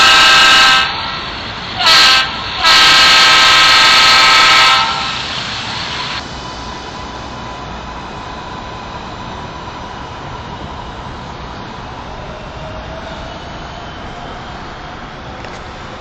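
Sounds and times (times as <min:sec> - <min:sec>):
train running noise with whine: 0:00.0 - 0:16.0.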